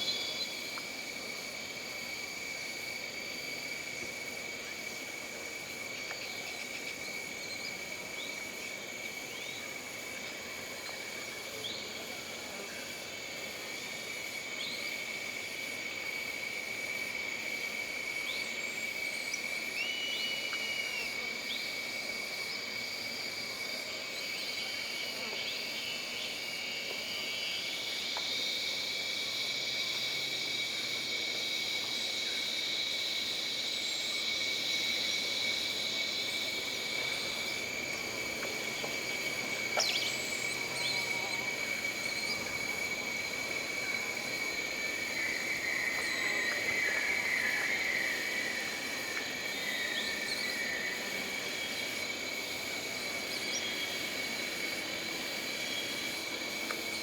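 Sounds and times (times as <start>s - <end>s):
high-pitched insect drones: 0.0s - 57.0s
pulsing insect trill: 0.0s - 57.0s.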